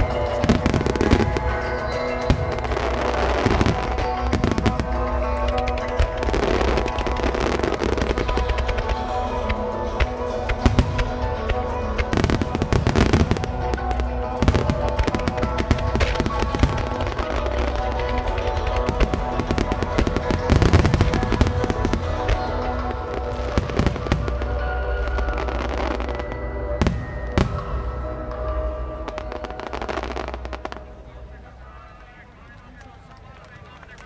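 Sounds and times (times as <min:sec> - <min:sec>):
fireworks bursting and crackling: 0:00.0 - 0:31.5
background music: 0:00.0 - 0:34.0.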